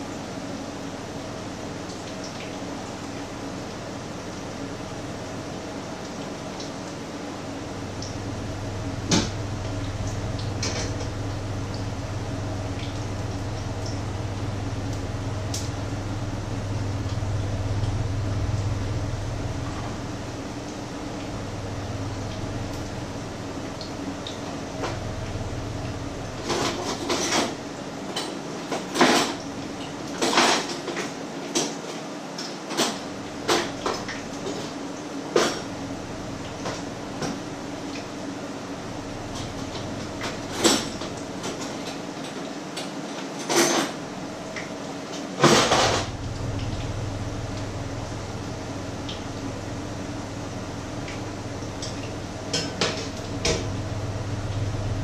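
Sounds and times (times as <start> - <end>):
steady low hum: 0.0 - 28.2, 33.1 - 41.8, 45.5 - 55.0.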